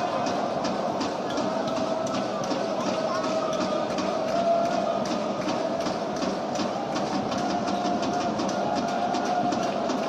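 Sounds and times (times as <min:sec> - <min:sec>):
crowd cheering and chanting: 0:00.0 - 0:10.0
faint rhythmic claps: 0:00.0 - 0:10.0.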